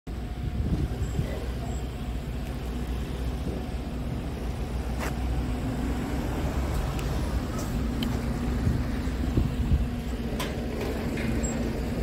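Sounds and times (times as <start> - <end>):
diesel engine idling: 0.1 - 12.0.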